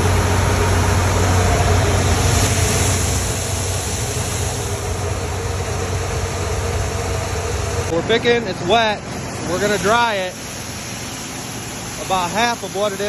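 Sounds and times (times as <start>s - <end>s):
grain rushing: 0.0s - 13.0s
machinery engine hum: 0.0s - 13.0s.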